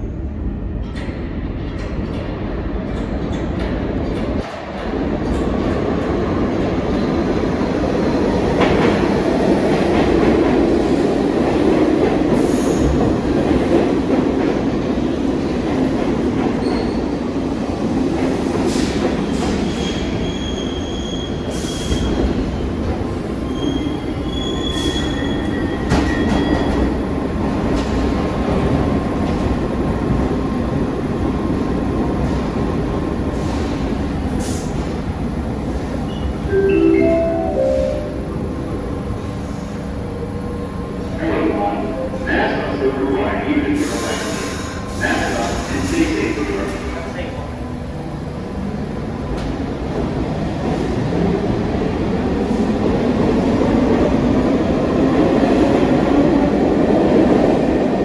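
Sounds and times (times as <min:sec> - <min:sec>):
train wheels rumbling on rails: 0:00.0 - 0:36.5, 0:38.3 - 0:58.0.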